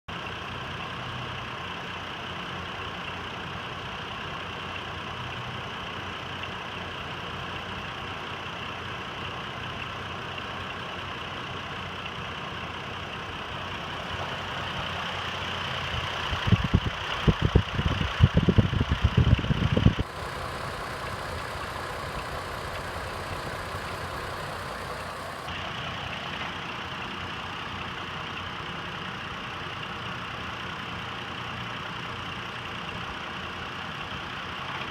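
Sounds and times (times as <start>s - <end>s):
car engine idling with misfire: 0.1s - 34.9s.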